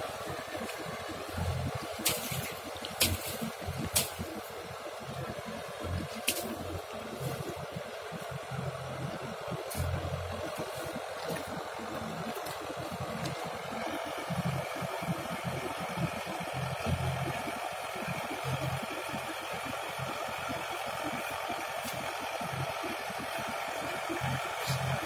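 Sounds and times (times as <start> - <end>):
rotavator churning mud: 0.0 - 25.0
tractor diesel engine running: 0.0 - 25.0.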